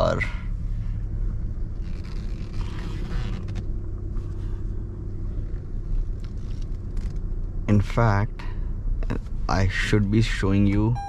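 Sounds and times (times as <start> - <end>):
diesel engine rumble inside cabin: 0.0 - 11.0.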